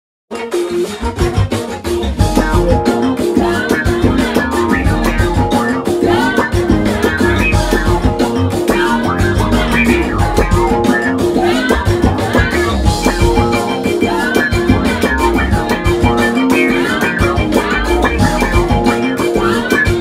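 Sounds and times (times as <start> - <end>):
band music with drums and strings: 0.3 - 20.0.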